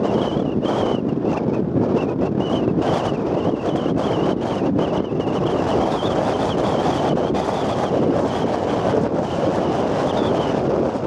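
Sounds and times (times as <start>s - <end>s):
storm wind buffeting microphone: 0.0s - 11.0s
thin wavering wind whistle: 0.0s - 11.0s.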